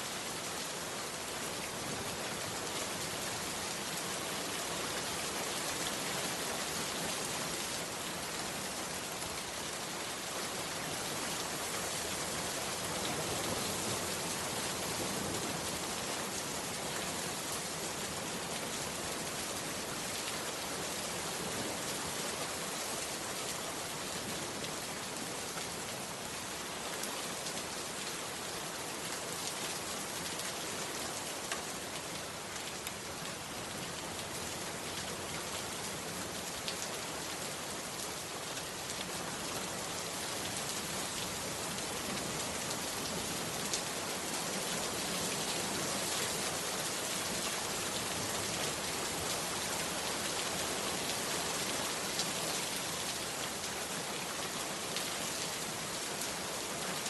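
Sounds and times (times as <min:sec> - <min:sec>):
heavy rain on hut roof: 0:00.0 - 0:57.0.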